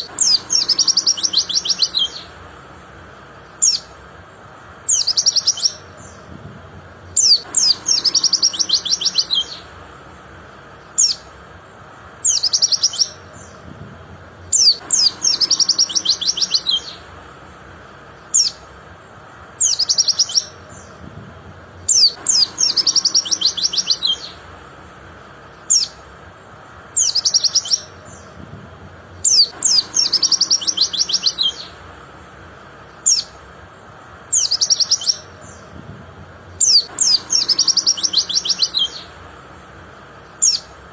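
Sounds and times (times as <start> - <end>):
bird singing trills: 0.0 - 21.2, 21.8 - 35.8, 36.4 - 40.9.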